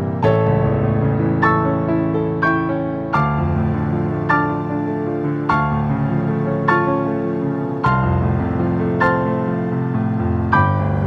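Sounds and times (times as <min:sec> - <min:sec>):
gentle piano-like melody: 0:00.0 - 0:11.0.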